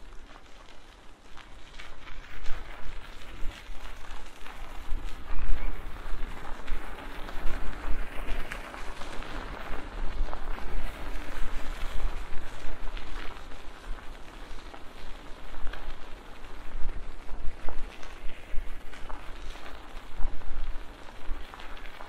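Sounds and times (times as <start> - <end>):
bicycle tyres rolling: 0.0 - 22.0
wind rumbling on microphone: 0.0 - 22.0.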